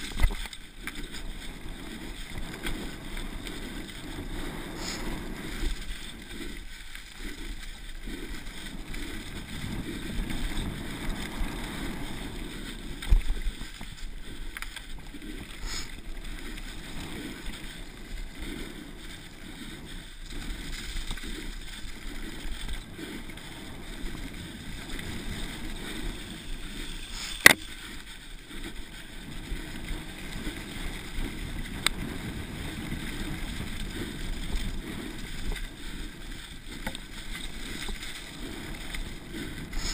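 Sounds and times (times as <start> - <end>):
tyre and wind rushing: 0.0 - 39.9.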